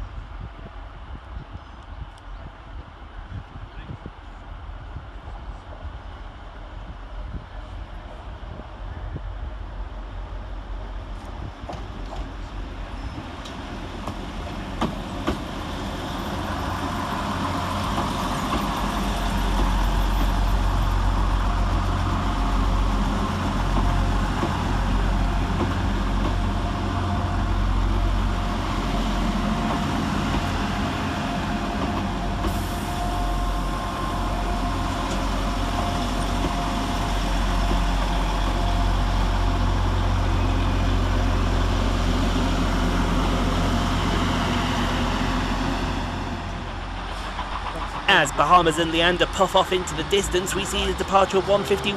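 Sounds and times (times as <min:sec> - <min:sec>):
train engine rumble: 0:00.0 - 0:51.9
held train tones: 0:07.6 - 0:51.9.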